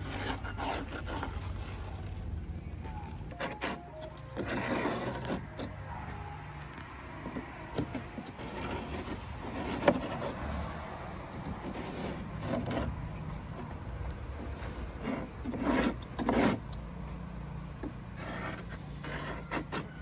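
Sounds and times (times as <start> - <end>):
wooden block scraping wooden planks: 0.0 - 10.7, 11.4 - 13.8, 14.4 - 16.7, 17.8 - 20.0.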